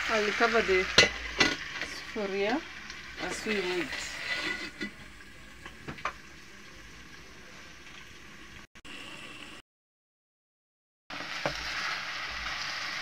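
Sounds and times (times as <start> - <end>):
food sizzling in a pot: 0.0 - 9.6, 11.1 - 13.0.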